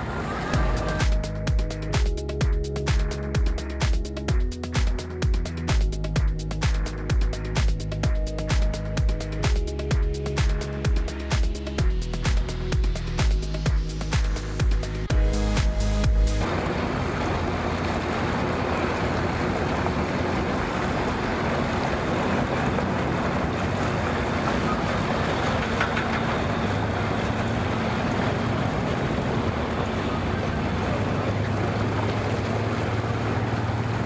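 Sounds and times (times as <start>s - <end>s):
boat motor humming: 0.0s - 34.0s
water noise: 0.0s - 34.0s
wind: 0.0s - 34.0s.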